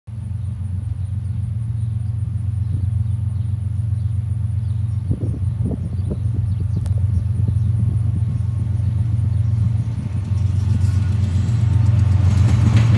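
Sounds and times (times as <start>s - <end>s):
diesel locomotives rumbling: 0.1s - 12.9s.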